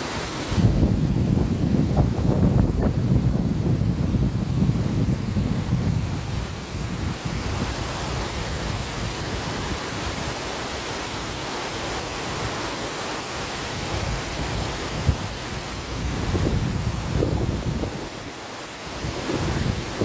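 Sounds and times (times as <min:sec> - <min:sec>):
river rushing: 0:00.0 - 0:20.0
wind buffeting microphone: 0:00.0 - 0:20.0.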